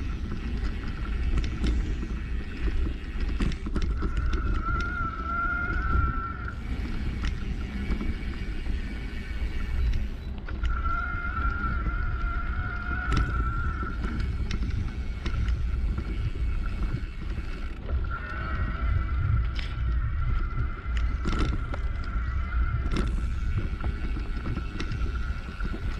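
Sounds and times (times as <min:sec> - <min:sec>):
bicycle tyres on dirt track: 0:00.0 - 0:25.9
high whine: 0:00.0 - 0:25.9
wind rumble on microphone: 0:00.0 - 0:25.9.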